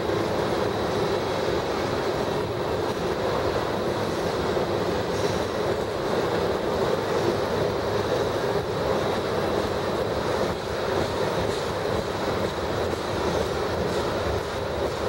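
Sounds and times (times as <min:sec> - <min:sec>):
steel wheels on rails: 0:00.0 - 0:15.0.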